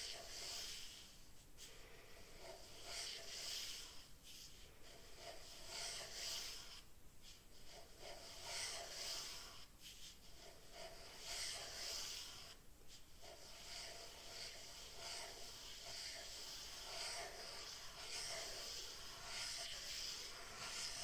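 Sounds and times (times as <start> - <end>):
pen scratching on paper: 0.0 - 21.0.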